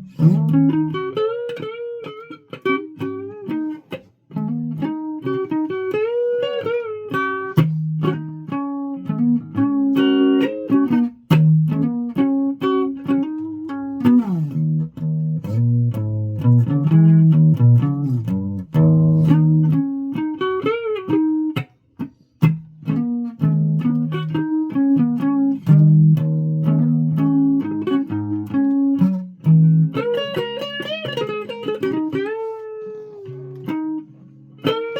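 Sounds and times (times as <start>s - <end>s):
guitar playing with bent notes: 0.0s - 34.9s.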